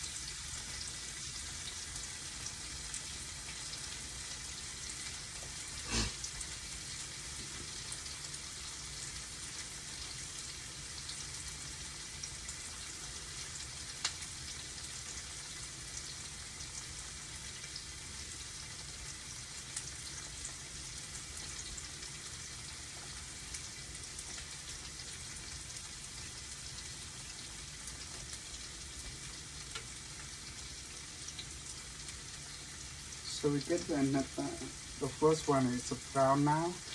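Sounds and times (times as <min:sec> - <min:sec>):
tofu sizzling in oil: 0:00.0 - 0:36.9.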